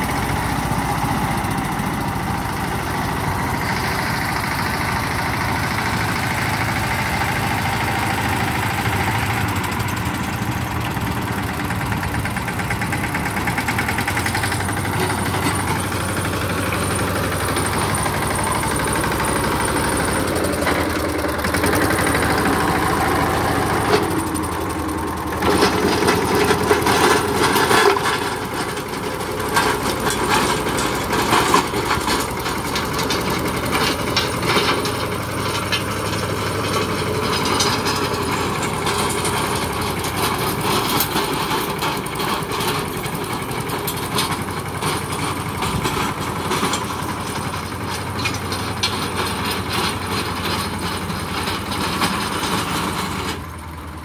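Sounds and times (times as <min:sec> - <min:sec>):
rotavator clattering through soil: 0:00.0 - 0:53.9
tractor engine running under load: 0:00.0 - 0:54.0.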